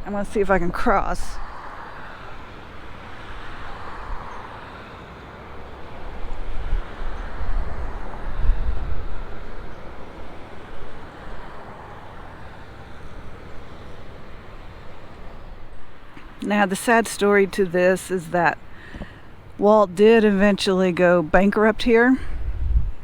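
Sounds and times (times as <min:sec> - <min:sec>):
city street traffic: 0:00.0 - 0:23.0
low traffic rumble: 0:00.0 - 0:23.0.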